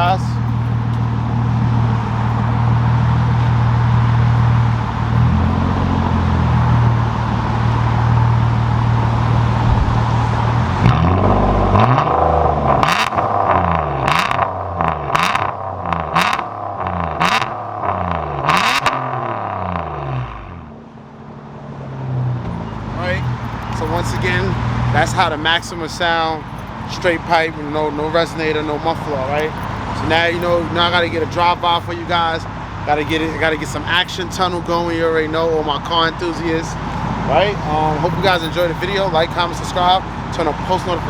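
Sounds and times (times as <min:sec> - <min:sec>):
car engine idling and revving: 0:00.0 - 0:41.0
exhaust cracks: 0:00.0 - 0:41.0.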